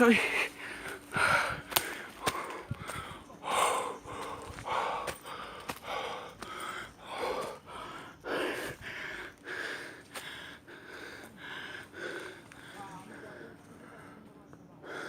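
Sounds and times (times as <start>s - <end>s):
person breathing hard: 0.0s - 14.2s.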